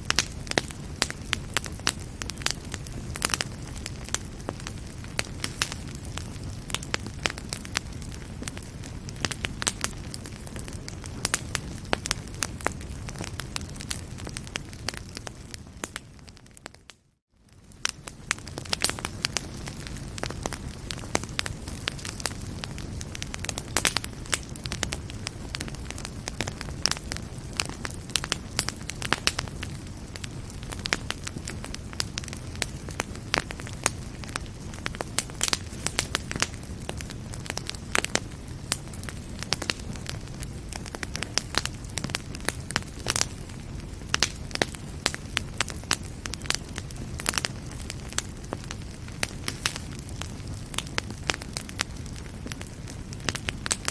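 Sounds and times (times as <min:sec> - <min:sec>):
fire crackling and popping: 0:00.0 - 0:53.9
fire low rumble: 0:00.0 - 0:53.9.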